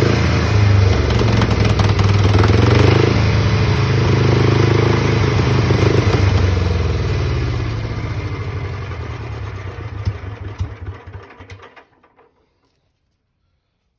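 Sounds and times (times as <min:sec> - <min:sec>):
engine knocks: 0:00.0 - 0:12.3
engine running and slowing down: 0:00.0 - 0:12.6.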